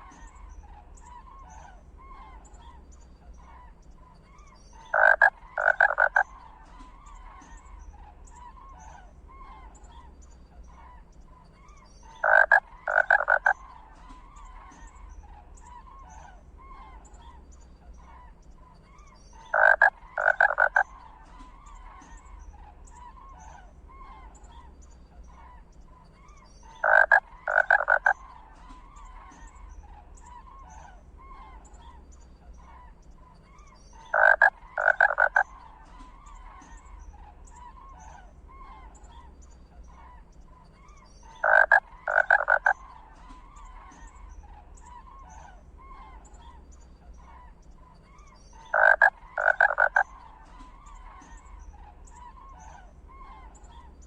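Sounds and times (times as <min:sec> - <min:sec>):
faint chirping: 0:00.0 - 0:54.0
loud croaking animal calls: 0:04.4 - 0:17.4, 0:19.4 - 0:54.0.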